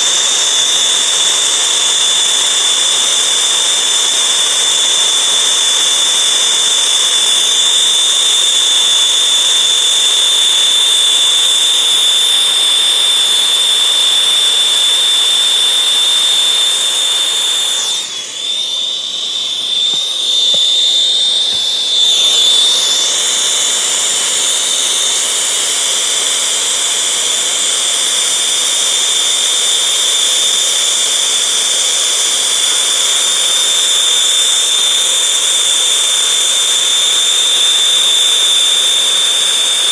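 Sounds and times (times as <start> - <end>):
gas torch hissing: 0.0 - 39.9
high whistling tone: 0.0 - 39.9.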